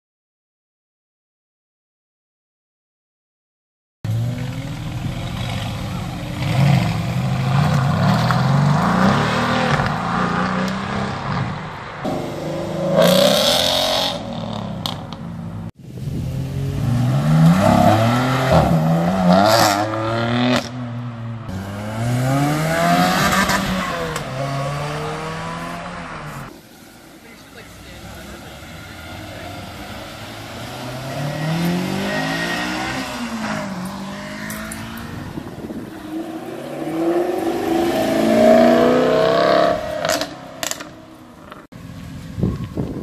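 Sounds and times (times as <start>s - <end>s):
sports car engines accelerating: 4.1s - 26.5s, 27.2s - 42.8s.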